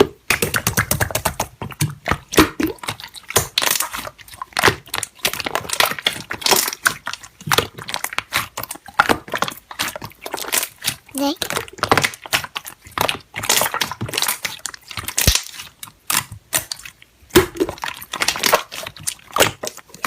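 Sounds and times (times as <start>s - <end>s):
slime squeezed by hand: 0.3s - 20.0s.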